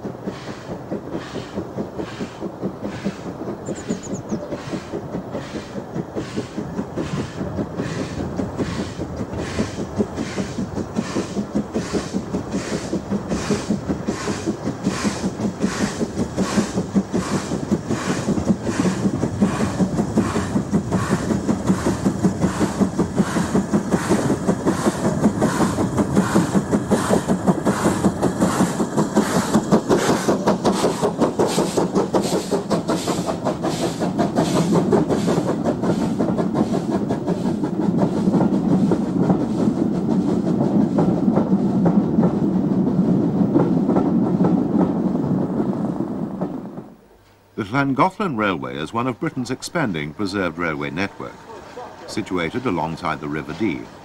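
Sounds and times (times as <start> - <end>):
steam locomotive exhaust beating: 0.0 - 54.0.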